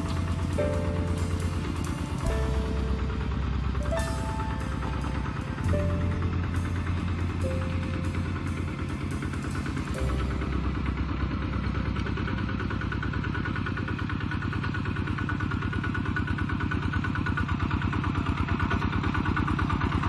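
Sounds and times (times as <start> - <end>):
tractor diesel engine chugging: 0.0 - 20.0.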